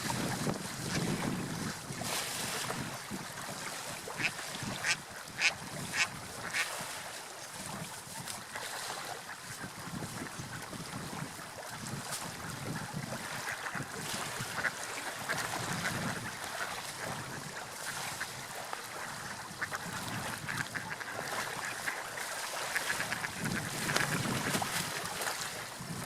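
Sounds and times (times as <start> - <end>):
water lapping and splashing: 0.0 - 26.0.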